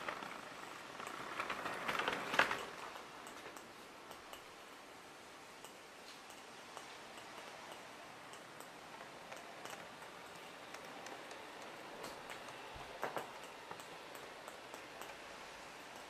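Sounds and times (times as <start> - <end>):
model train wheels clicking: 0.0 - 16.0
steady low hiss: 0.0 - 16.0.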